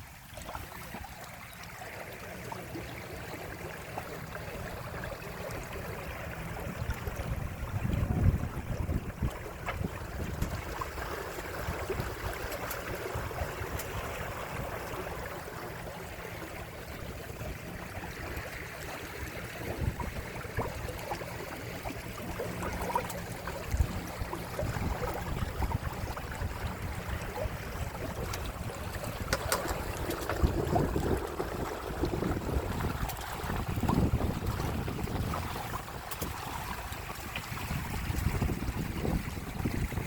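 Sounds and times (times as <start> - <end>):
water rushing along boat hulls: 0.0 - 40.0.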